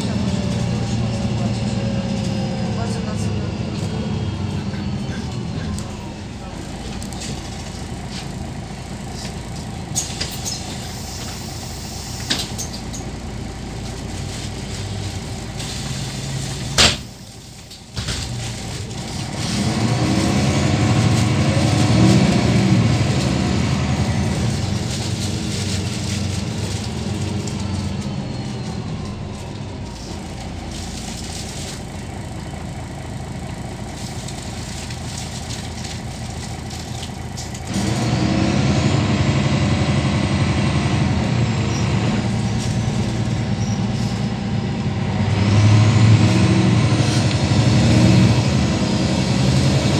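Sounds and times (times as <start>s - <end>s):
bus diesel engine running: 0.0s - 49.9s.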